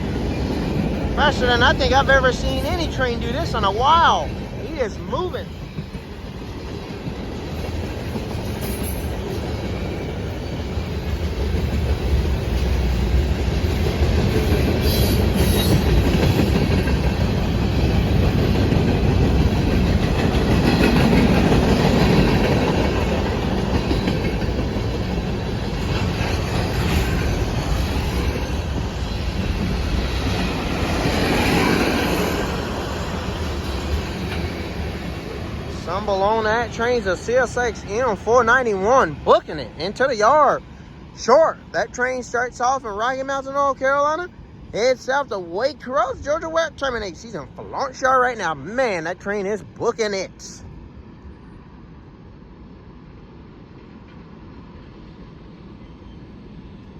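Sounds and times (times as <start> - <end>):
freight train passing: 0.0 - 56.9.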